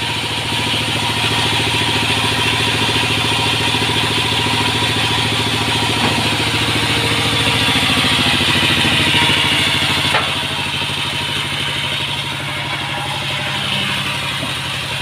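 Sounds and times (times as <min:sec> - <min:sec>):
sawmill engine drone: 0:00.0 - 0:15.0.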